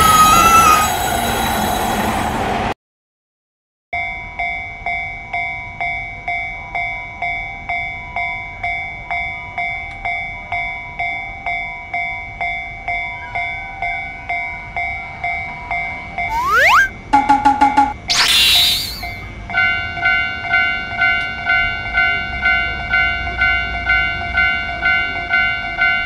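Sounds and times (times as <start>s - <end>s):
railroad crossing bell ringing: 4.0s - 18.0s, 19.2s - 26.0s.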